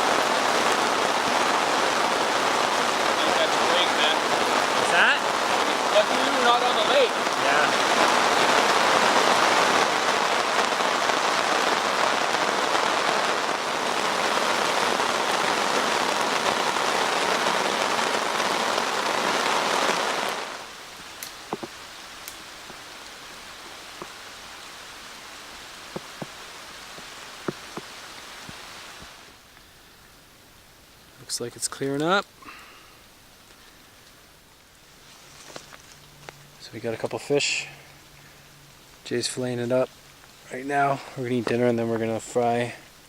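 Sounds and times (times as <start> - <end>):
heavy rain pouring: 0.0 - 29.6, 30.3 - 43.0.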